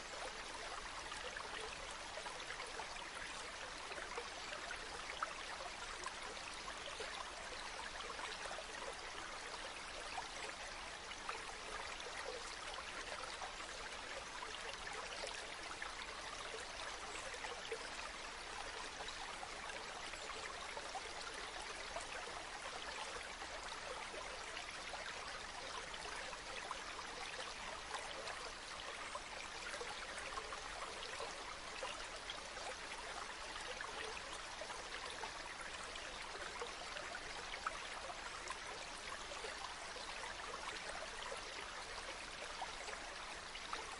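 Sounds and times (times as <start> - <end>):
stream water running over rocks: 0.0 - 43.9.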